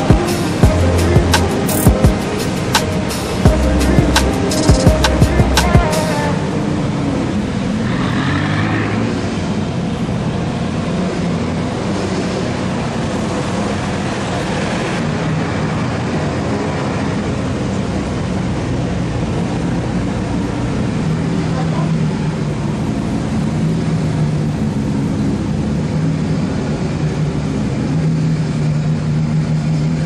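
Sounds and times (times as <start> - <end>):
sports car engines revving: 0.0 - 30.0.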